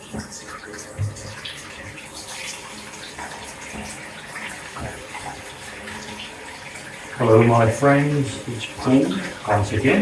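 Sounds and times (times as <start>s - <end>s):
tap running into bathtub: 0.0s - 10.0s.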